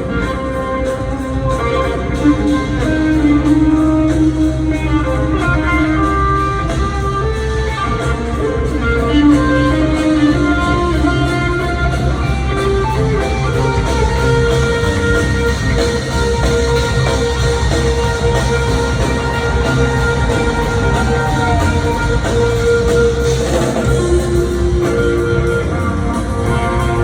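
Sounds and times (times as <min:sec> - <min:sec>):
bass guitar: 0:00.0 - 0:27.0
drums: 0:00.0 - 0:27.0
electric guitar lines: 0:00.0 - 0:27.0.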